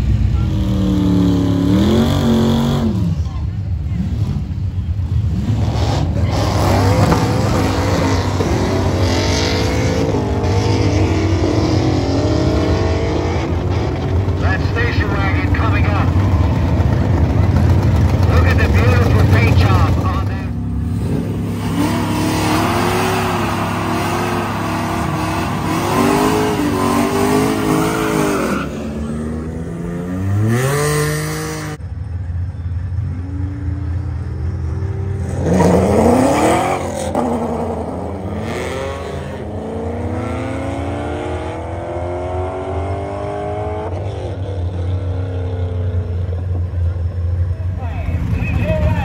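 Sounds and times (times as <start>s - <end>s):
drag car engines revving: 0.0s - 49.0s.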